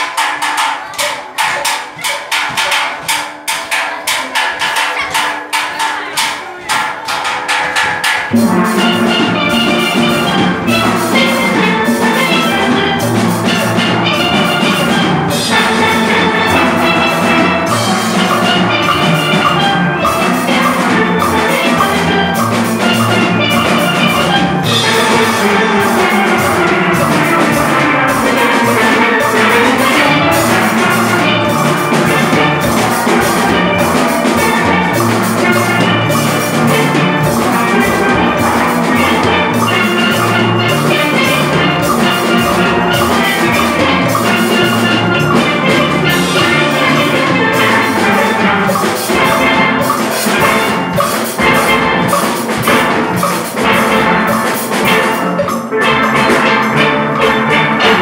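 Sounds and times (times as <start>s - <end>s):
drum kit: 0.0s - 58.0s
steel pans playing melody: 0.0s - 58.0s.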